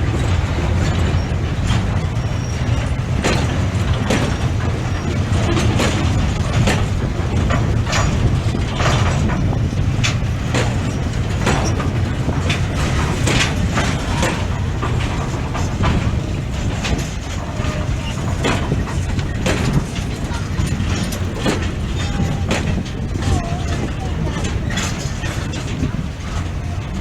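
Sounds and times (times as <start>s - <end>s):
freight train wheels rumbling: 0.0s - 27.0s
train knocks and clanks: 0.0s - 27.0s.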